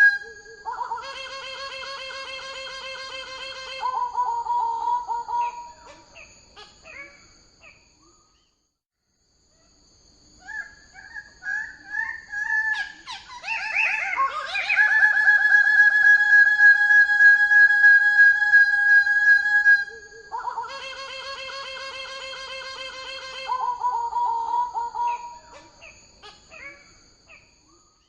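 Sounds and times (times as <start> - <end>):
bird calls with fast trill: 0.0 - 8.4, 10.4 - 27.9.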